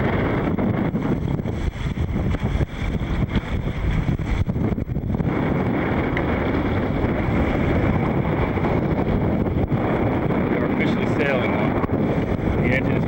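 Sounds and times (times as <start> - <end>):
water washing past hull: 0.0 - 13.0
wind buffeting microphone: 0.0 - 13.0.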